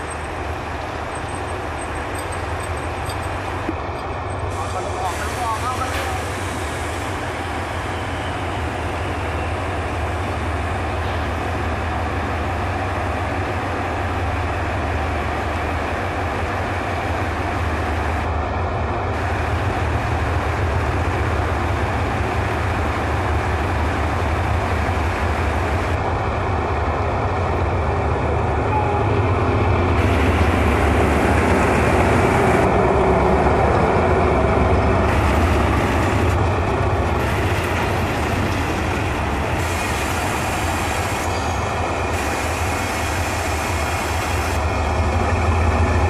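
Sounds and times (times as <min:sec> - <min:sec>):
locomotive engine drone: 0:00.0 - 0:46.0.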